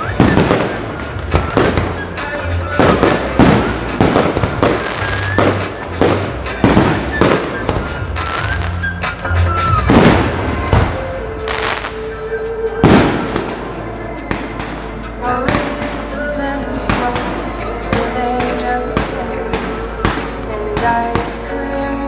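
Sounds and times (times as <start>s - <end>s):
fireworks bursting: 0.0s - 22.0s
music over a pa system: 0.0s - 22.0s.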